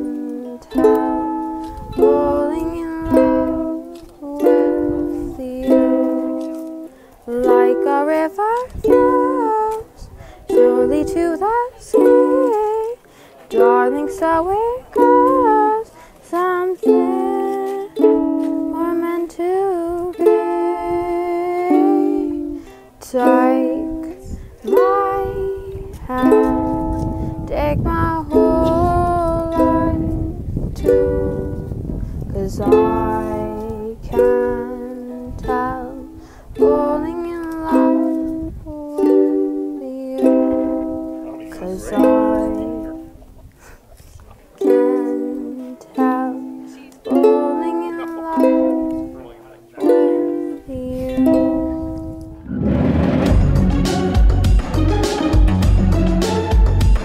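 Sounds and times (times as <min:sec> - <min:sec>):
person singing: 0:00.0 - 0:30.5, 0:32.4 - 0:43.2, 0:44.6 - 0:52.1
ukulele strummed slowly: 0:00.0 - 0:31.8, 0:32.4 - 0:57.0.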